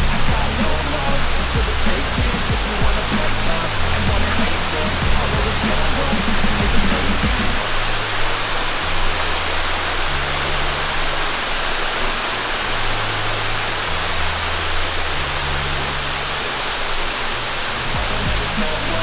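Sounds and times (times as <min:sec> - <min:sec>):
slow bass line music: 0:00.0 - 0:19.0
waterfall rushing: 0:00.0 - 0:19.0.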